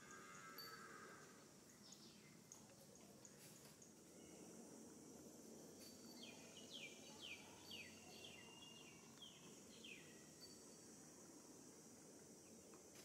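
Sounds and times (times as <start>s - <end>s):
steady high background hiss: 0.0s - 13.0s.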